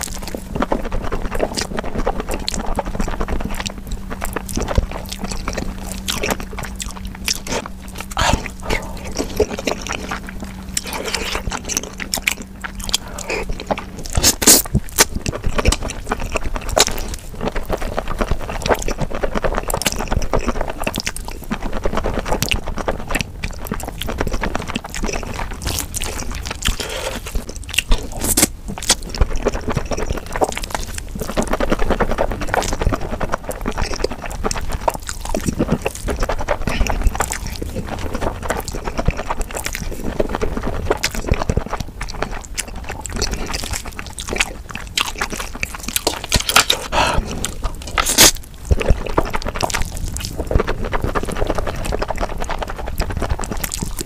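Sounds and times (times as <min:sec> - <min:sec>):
slurping and chewing noodles: 0:00.0 - 0:54.0.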